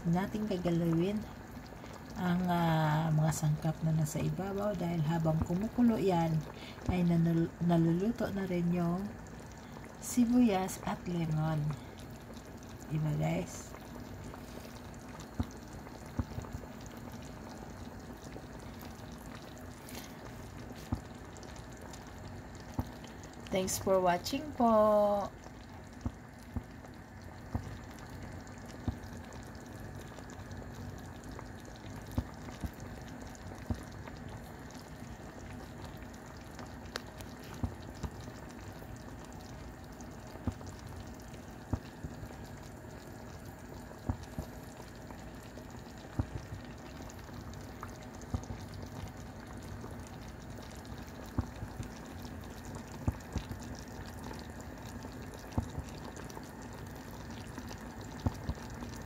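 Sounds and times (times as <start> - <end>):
liquid simmering in a frying pan: 0.0 - 59.0.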